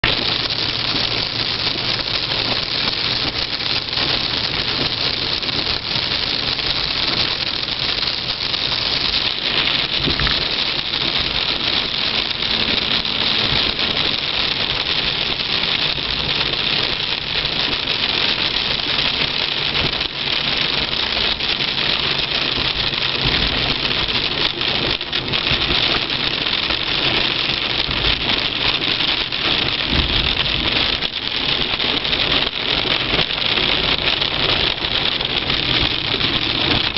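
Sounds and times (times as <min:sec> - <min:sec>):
engine and road noise: 0:00.0 - 0:36.9
rain hissing on car: 0:00.0 - 0:36.9.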